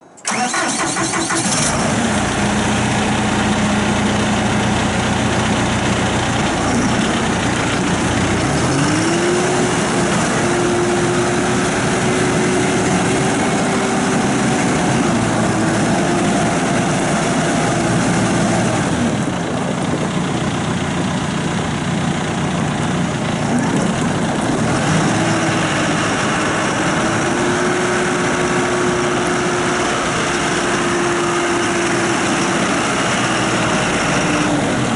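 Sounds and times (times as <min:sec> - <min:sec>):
tractor diesel engine revving: 0:00.2 - 0:34.9.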